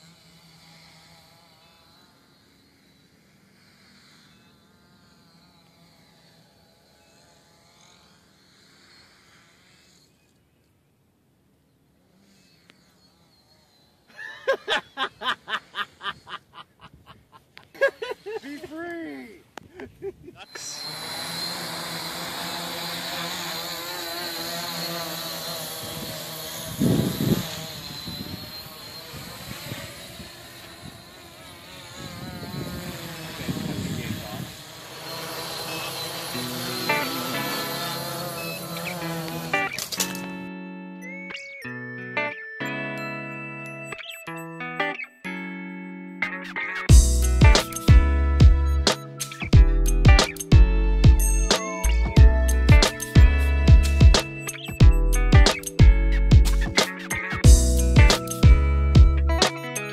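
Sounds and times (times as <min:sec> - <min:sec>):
drone propellers buzzing: 0:00.0 - 0:10.7, 0:11.4 - 0:16.3, 0:20.4 - 0:41.6, 0:46.6 - 0:59.9.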